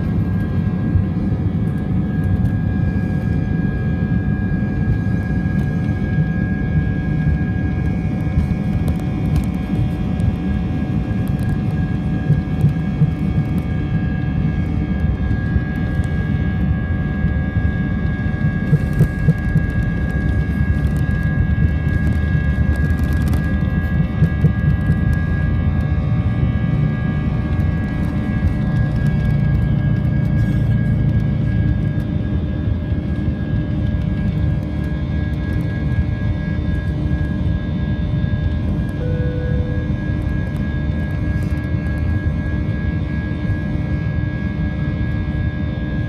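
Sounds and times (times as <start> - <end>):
jet engines heard inside cabin: 0.0 - 46.0.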